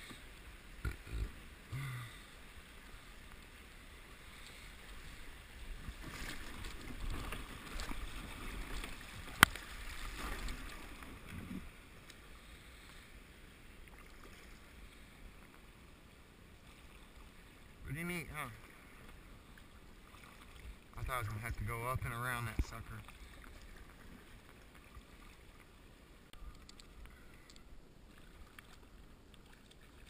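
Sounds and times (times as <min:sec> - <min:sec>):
water splashing around kayak hull: 0:00.0 - 0:30.0.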